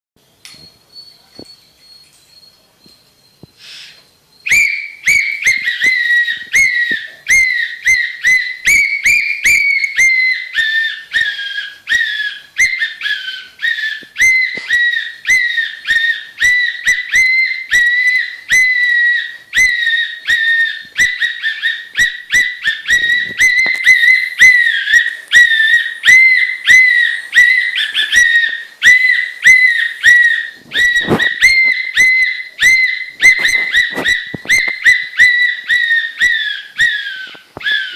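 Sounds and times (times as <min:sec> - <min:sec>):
dog whining: 0:04.5 - 0:37.9.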